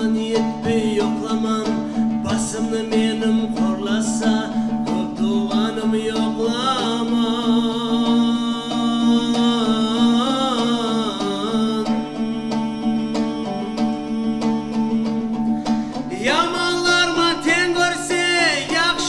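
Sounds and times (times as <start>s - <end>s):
man singing folk song: 0.0s - 19.0s
strummed dombras with drone: 0.0s - 19.0s.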